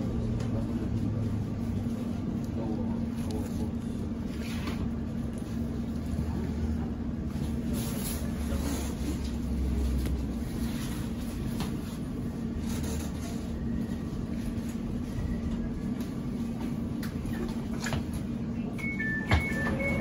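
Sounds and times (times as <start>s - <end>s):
train electrical hum: 0.0s - 20.0s
train low rumble: 0.0s - 20.0s.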